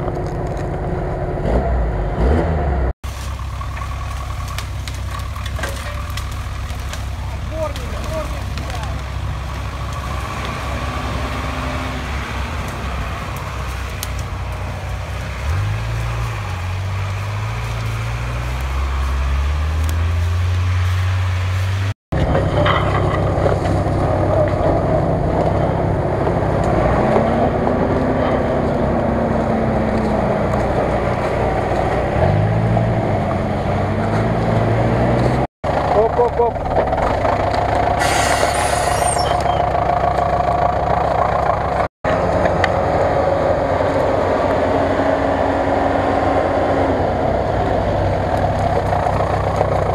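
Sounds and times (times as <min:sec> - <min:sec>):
truck engine revving: 0:00.0 - 0:49.9.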